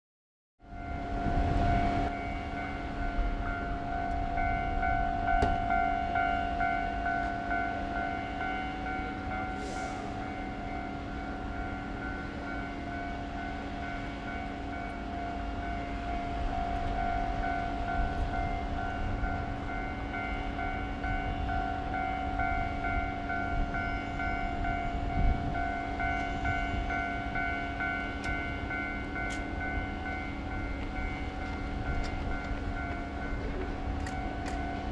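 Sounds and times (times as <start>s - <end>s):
diesel locomotive engine rumble: 0.6s - 34.9s
level crossing warning bell: 0.6s - 34.9s.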